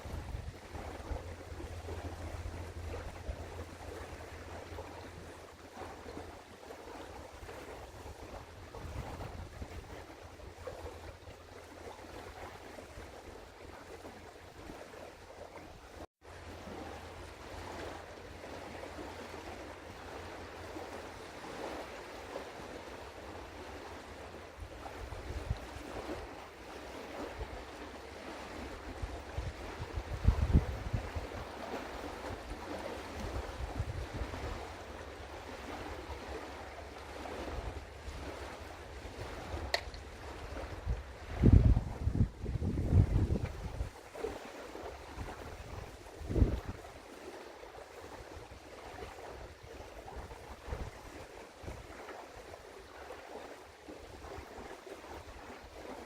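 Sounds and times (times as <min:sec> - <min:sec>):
moving water: 0:00.0 - 0:56.0
wind on microphone: 0:00.0 - 0:56.0.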